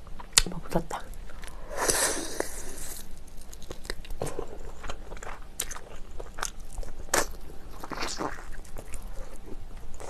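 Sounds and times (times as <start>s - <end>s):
person chewing food: 1.3s - 10.0s.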